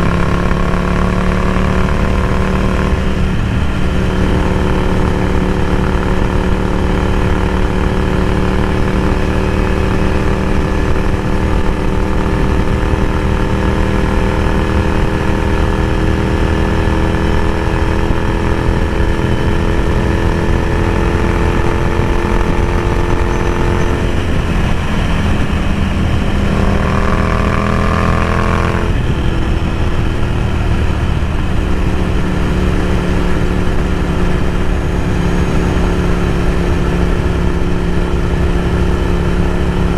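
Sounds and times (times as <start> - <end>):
motorcycle engine running: 0.0 - 39.9
riding wind rush: 0.0 - 39.9.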